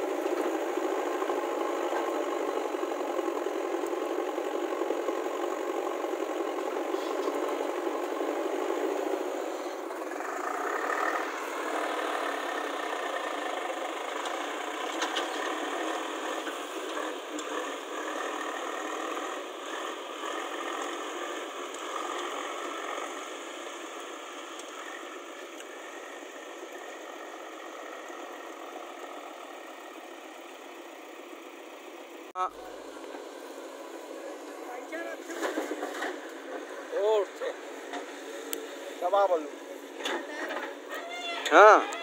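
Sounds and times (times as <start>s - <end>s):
diesel engines running: 0.0s - 42.0s
tractor driving away: 0.0s - 42.0s.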